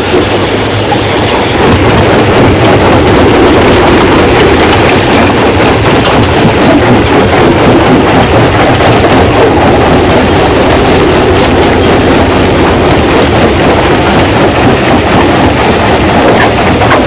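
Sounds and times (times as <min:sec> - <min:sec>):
rock crusher rumbling: 0:01.6 - 0:17.0.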